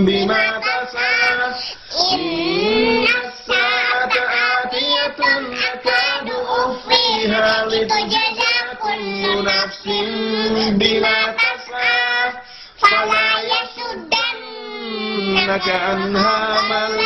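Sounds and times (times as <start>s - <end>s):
girl and man chanting: 0.0s - 17.0s.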